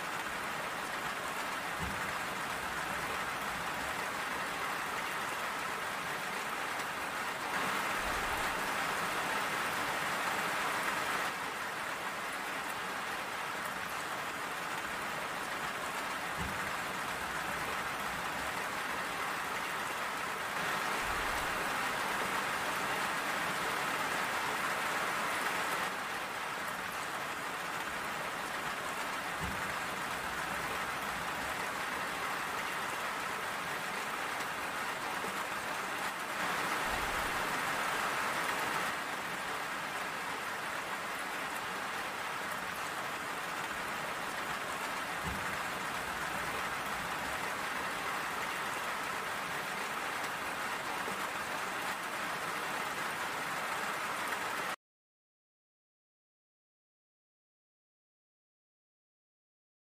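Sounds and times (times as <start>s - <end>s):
rain pattering: 0.0s - 54.8s.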